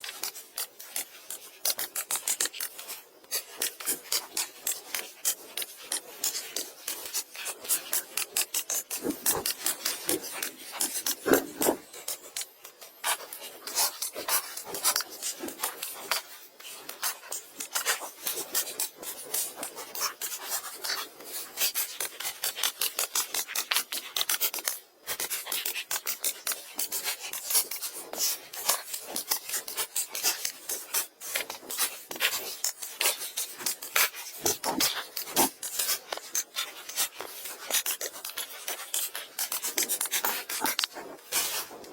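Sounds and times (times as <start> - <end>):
rasping and scraping strokes: 0.0 - 24.4, 26.3 - 41.9.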